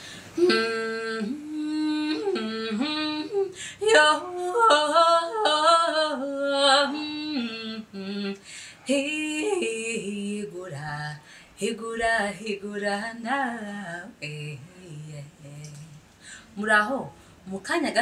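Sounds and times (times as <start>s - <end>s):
woman singing: 0.3s - 18.0s.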